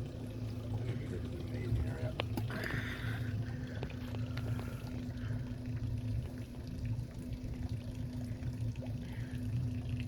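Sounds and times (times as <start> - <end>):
boat motor idling: 0.0 - 10.0
water sloshing and splashing: 0.0 - 10.0.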